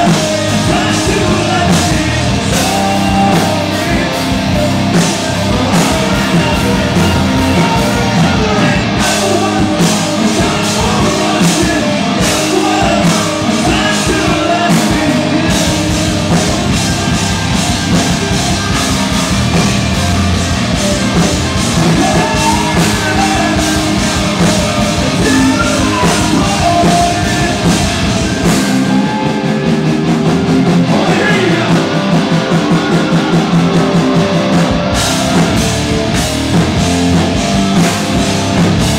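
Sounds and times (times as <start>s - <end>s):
distorted electric guitars: 0.0s - 38.9s
drum kit: 0.0s - 38.9s
person singing: 0.0s - 38.9s.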